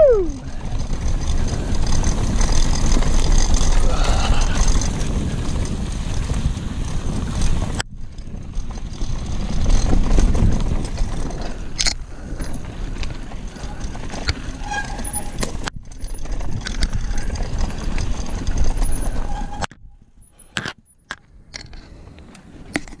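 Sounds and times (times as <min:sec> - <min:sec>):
wind rumbling on microphone: 0:00.0 - 0:20.4
clattering and rattles: 0:00.6 - 0:21.9.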